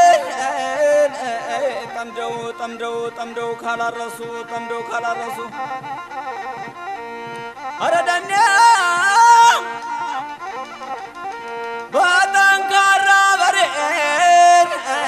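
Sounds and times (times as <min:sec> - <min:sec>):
plucked and bowed instrumental music: 0:00.0 - 0:15.0.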